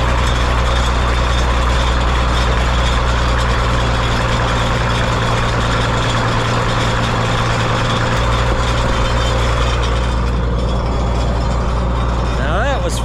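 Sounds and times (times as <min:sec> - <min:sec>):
combine engine droning: 0:00.0 - 0:13.0.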